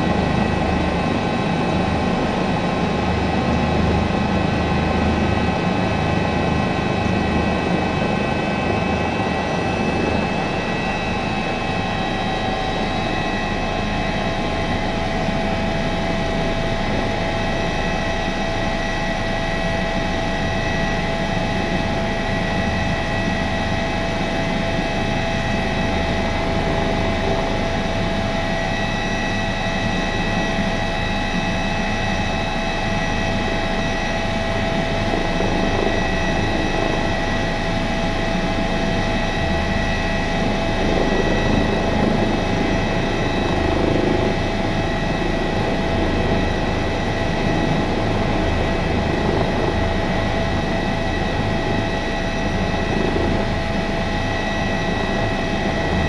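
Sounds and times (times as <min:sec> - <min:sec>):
helicopter running from cockpit: 0:00.0 - 0:56.0.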